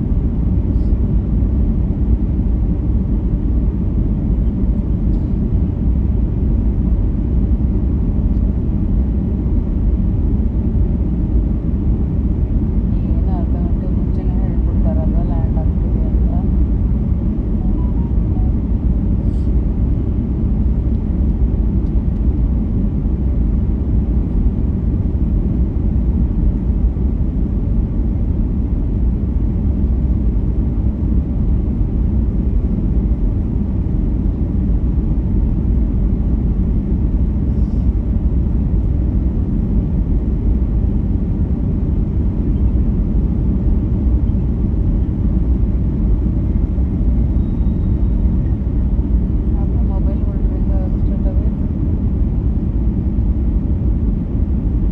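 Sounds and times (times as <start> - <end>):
airliner engine rumble: 0.0 - 54.9.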